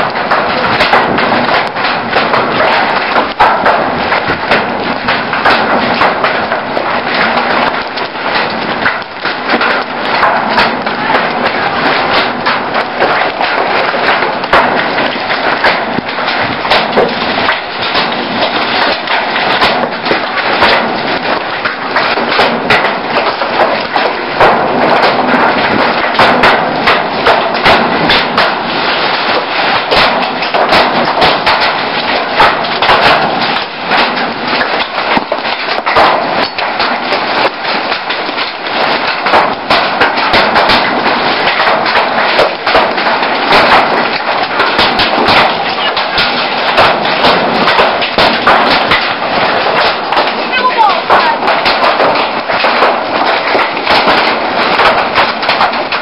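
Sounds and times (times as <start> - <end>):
hailstones clattering on roof: 0.0 - 56.0.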